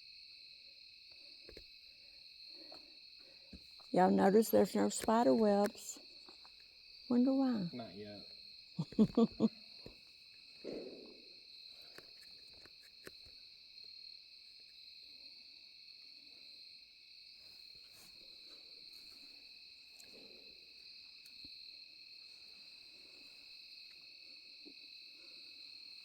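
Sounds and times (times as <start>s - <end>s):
crickets and night insects: 0.0s - 26.0s.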